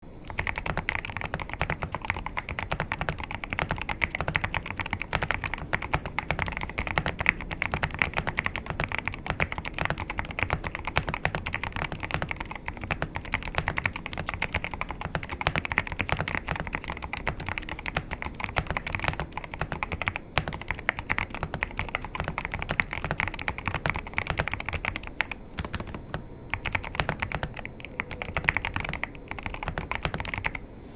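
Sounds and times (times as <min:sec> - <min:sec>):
fast mechanical keyboard typing: 0:00.2 - 0:30.6.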